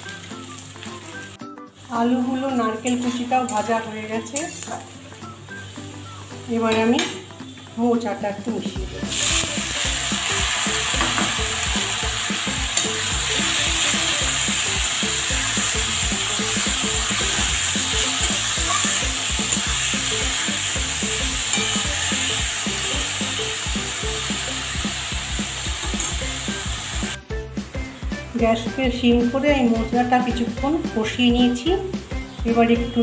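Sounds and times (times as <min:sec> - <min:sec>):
food sizzling in oil: 0:00.0 - 0:27.2.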